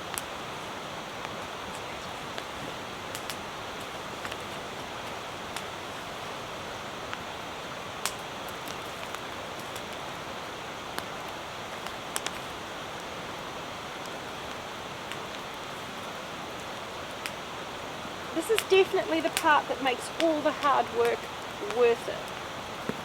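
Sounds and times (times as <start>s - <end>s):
campfire crackling and popping: 0.0s - 23.0s
rain hissing: 0.0s - 23.0s.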